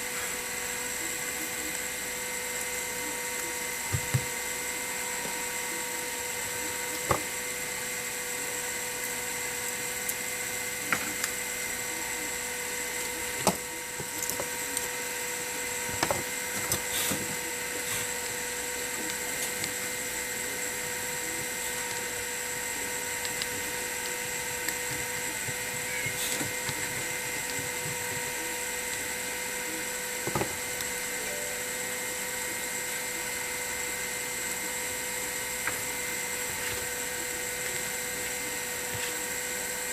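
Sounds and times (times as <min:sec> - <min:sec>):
steady whine and hiss: 0:00.0 - 0:39.9.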